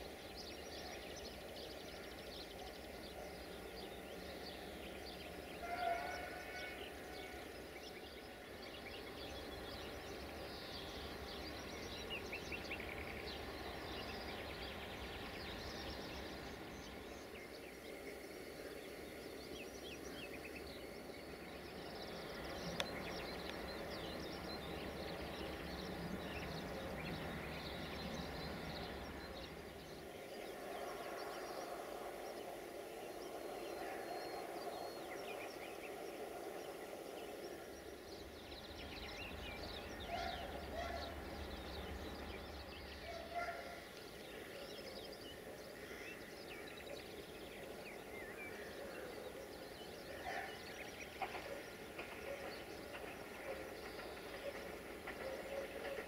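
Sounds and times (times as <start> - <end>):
low train rumble: 0.0 - 56.0
songbirds chirping: 0.0 - 56.0.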